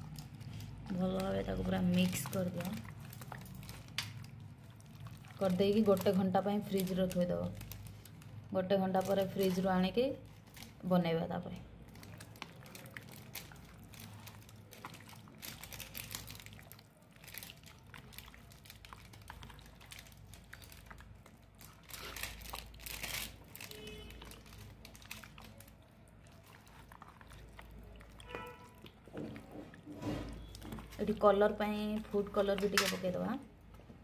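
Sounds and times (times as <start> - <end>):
hands squishing wet marinade: 0.0 - 34.0.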